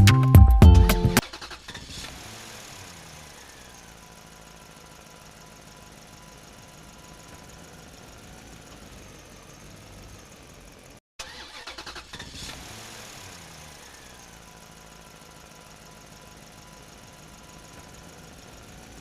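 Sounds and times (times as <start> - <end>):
engine running: 1.2 - 19.0.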